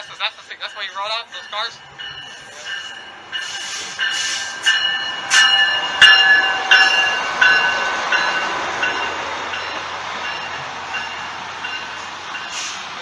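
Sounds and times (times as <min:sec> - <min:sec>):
diesel locomotive passing: 0:00.0 - 0:13.0
train bell ringing: 0:00.0 - 0:13.0
train rumble: 0:00.0 - 0:13.0.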